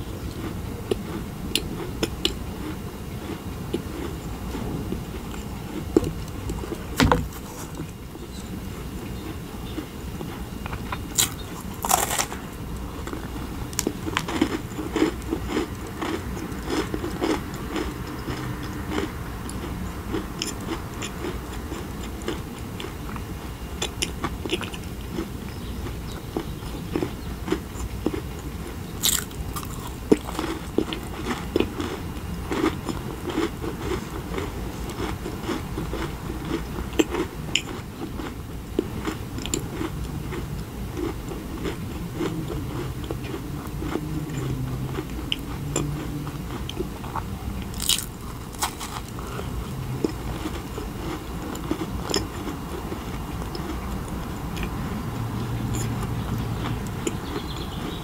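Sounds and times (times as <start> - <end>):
chewing crisp macarons: 0.1 - 58.0.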